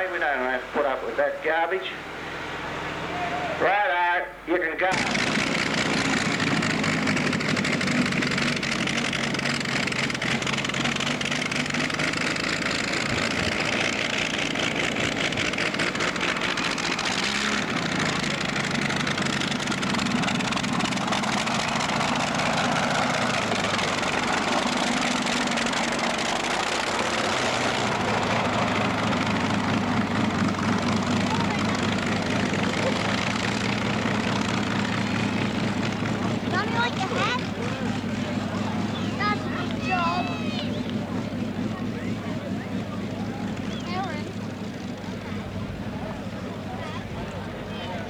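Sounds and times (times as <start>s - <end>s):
tractor engine running: 0.0s - 3.9s, 4.5s - 48.0s.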